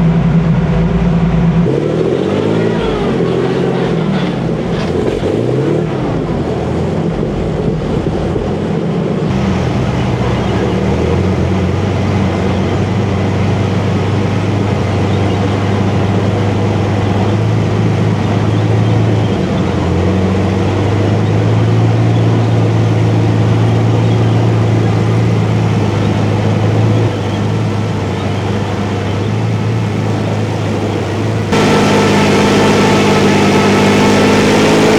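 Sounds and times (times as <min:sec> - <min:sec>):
tank engine running: 0:00.0 - 0:34.9.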